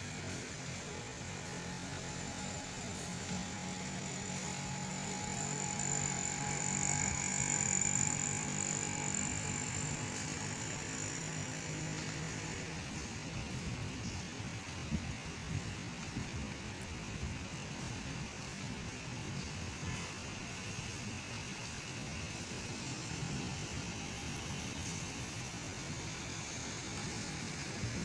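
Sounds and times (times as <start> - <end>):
hum of vehicle engines: 0.0 - 28.0
thin high whine: 0.0 - 28.0.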